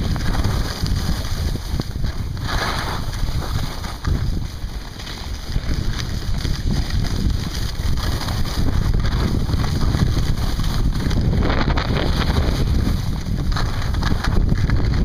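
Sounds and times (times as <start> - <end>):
skis sliding on snow: 0.0 - 15.0
wind buffeting microphone: 0.0 - 15.0.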